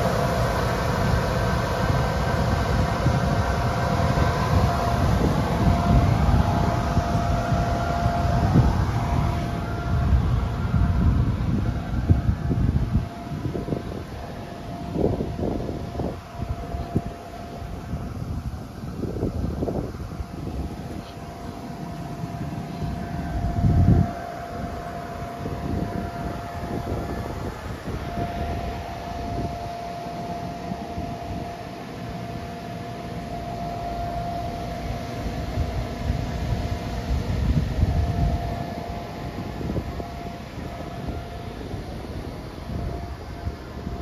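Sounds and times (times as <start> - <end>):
electric blower whining: 0.0 - 44.0
wind buffeting microphone: 0.0 - 44.0.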